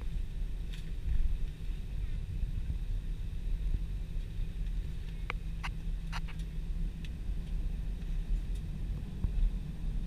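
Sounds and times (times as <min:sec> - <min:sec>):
aircraft cabin rumble: 0:00.0 - 0:10.0.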